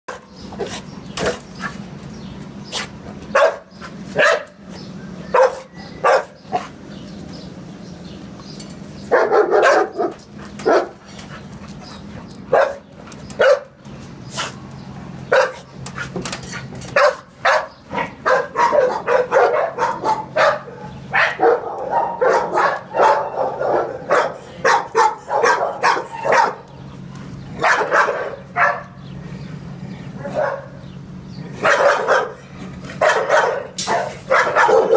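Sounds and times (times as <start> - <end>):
steady low hum: 0.1 - 34.9
dogs barking: 2.6 - 6.9, 9.0 - 14.6, 15.2 - 34.9.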